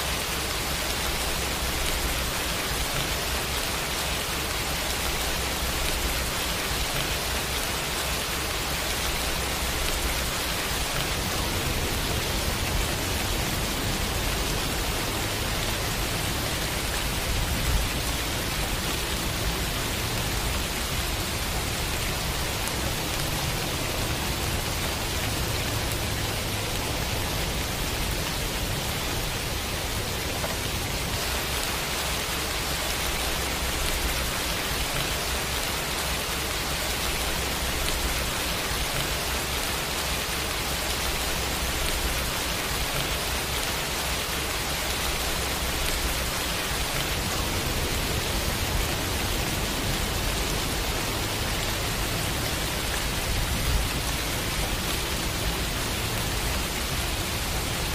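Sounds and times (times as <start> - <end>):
rain on wet pavement: 0.0 - 57.9.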